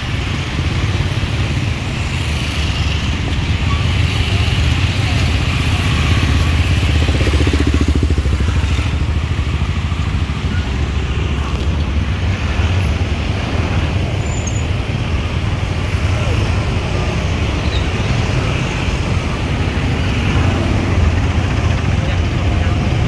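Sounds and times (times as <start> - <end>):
low hum of engines and tyres: 0.0 - 23.0
motorbikes and cars driving past: 0.0 - 23.0.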